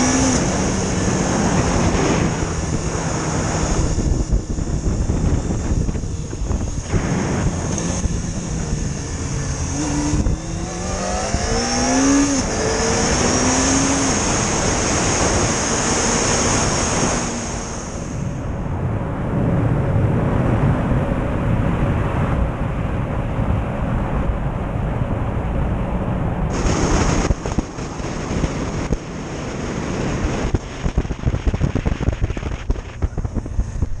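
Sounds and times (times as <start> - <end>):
motorcycle engine accelerating: 0.0 - 22.4, 26.2 - 34.0
wind and road noise: 0.0 - 34.0.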